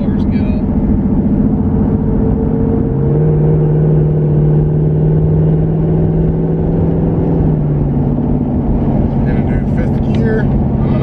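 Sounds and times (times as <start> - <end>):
car engine drone in cabin: 0.0 - 11.0.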